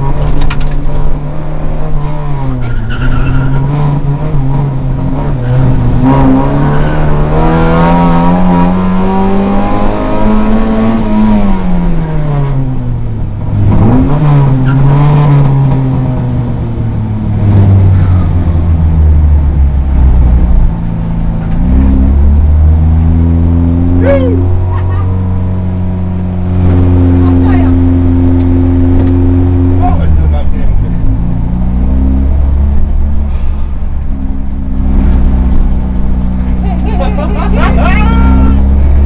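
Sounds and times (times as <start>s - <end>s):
rally car engine revving: 0.0s - 39.0s.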